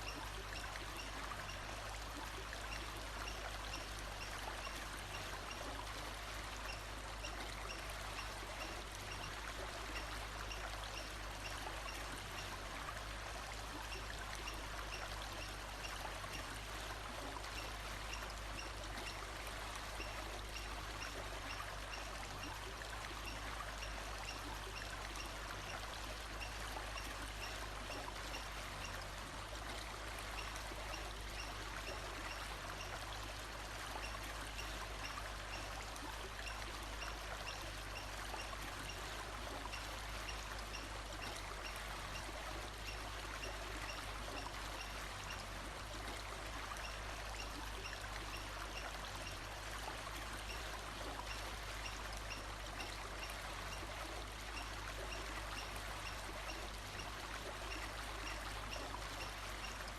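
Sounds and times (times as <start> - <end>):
stream running water: 0.0 - 59.9.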